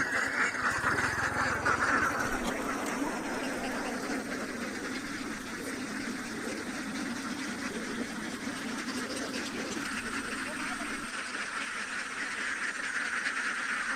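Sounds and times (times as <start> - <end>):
ducks quacking: 0.0 - 13.9.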